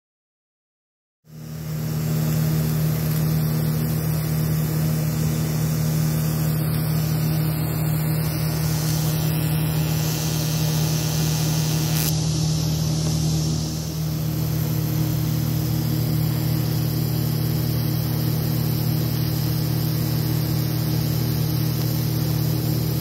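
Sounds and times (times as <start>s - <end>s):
mechanical drone with low hum: 1.3s - 23.0s.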